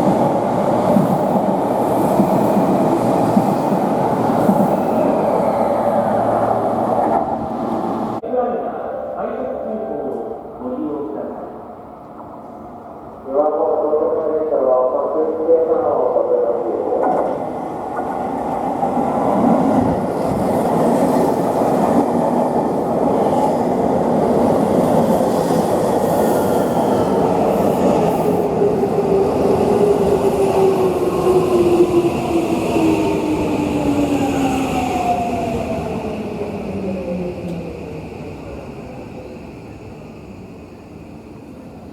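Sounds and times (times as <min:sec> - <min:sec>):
train wheel and rail rumble: 0:00.0 - 0:08.2, 0:09.9 - 0:41.9.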